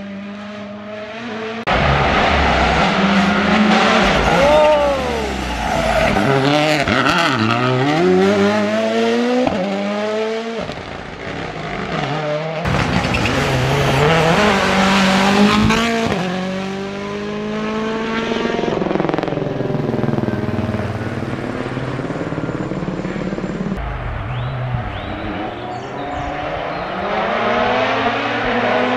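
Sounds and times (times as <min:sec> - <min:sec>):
distant car engine: 0:00.0 - 0:28.9
rally cars racing through corner: 0:00.0 - 0:28.9.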